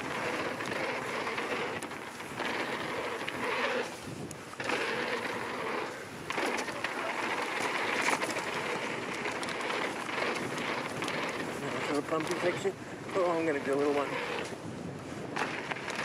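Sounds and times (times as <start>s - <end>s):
bike rattling and ticking: 0.0s - 16.0s
bike tyres rolling over dirt: 0.0s - 16.0s
wind on microphone: 0.0s - 16.0s.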